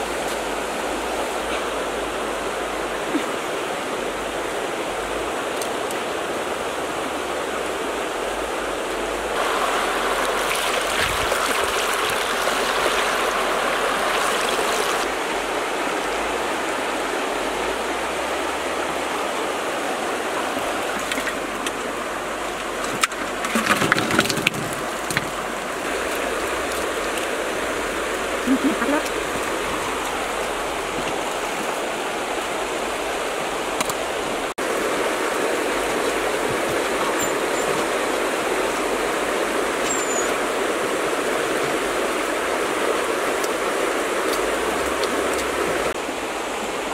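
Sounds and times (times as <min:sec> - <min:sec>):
water rushing: 0:00.0 - 0:46.9.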